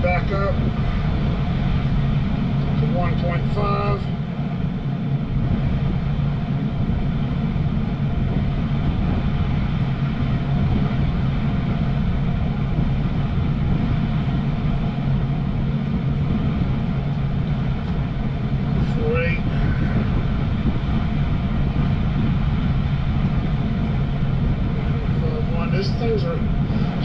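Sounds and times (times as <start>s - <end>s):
gas furnace humming: 0.0s - 27.0s.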